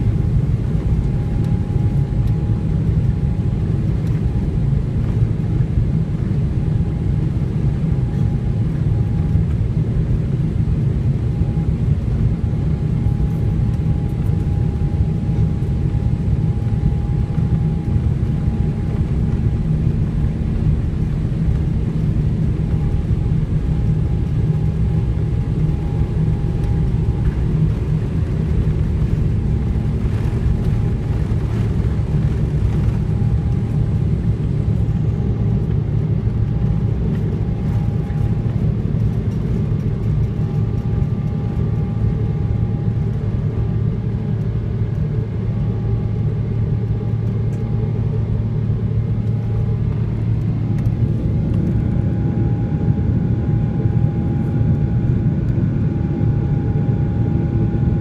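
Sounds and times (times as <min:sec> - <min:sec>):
jet engines rumbling: 0:00.0 - 0:58.0
thin steady whine: 0:11.4 - 0:58.0.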